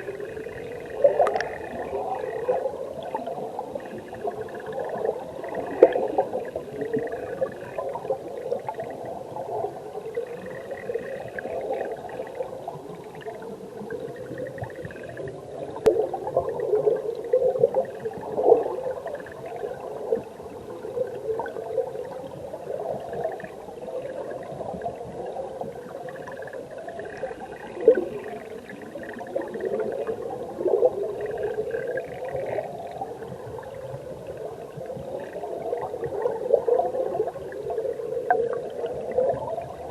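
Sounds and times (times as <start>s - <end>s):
stream bubbling underwater: 0.0s - 39.9s.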